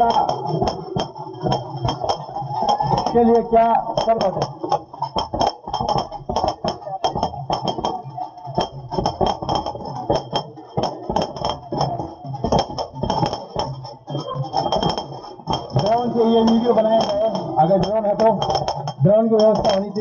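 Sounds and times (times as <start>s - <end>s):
crowd chatter: 0.0s - 20.0s
firecrackers banging: 0.0s - 20.0s.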